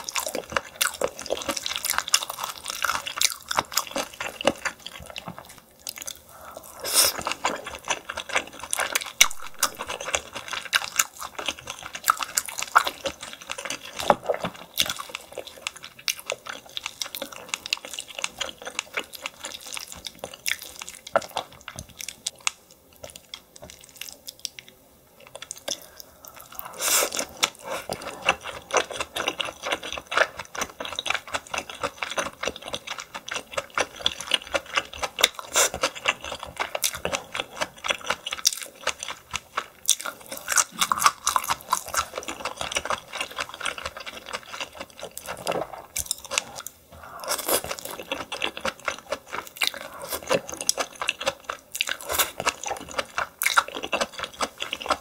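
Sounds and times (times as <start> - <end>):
wet chewing and mouth sounds: 0.0 - 55.0.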